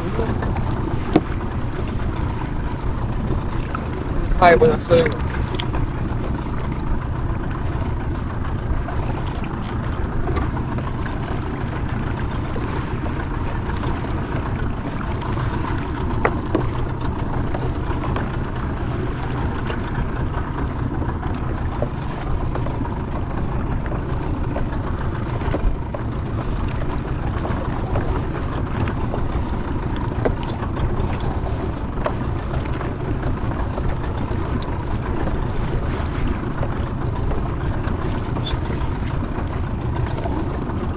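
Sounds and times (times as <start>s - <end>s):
boat rumble and water wash: 0.0s - 40.9s.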